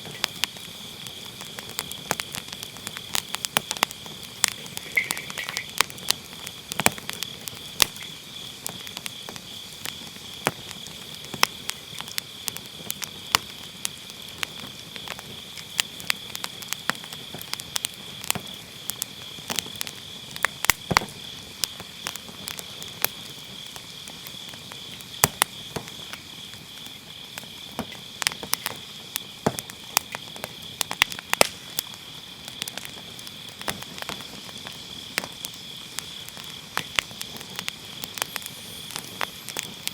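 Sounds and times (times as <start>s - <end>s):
firewood crackling and popping: 0.0s - 39.9s
insects chirring: 0.0s - 39.9s.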